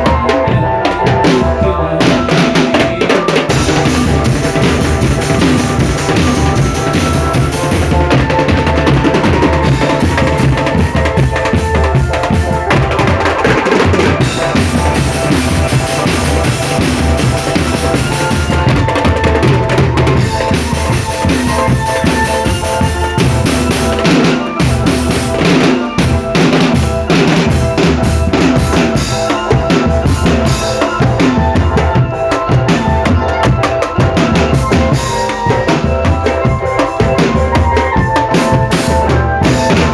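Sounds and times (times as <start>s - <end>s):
bass drums beating: 0.0s - 39.9s
snare drums beating: 0.0s - 39.9s
sustained melody line: 0.0s - 39.9s.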